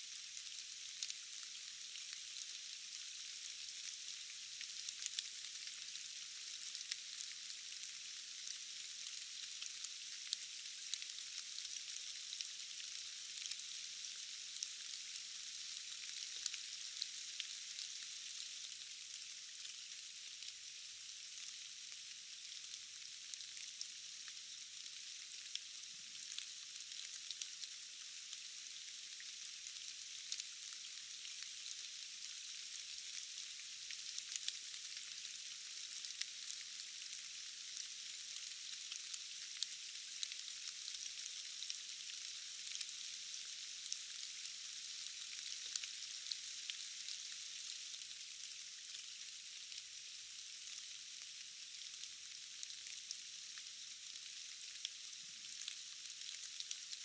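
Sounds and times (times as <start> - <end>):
rain hissing with drop ticks: 0.0 - 57.0.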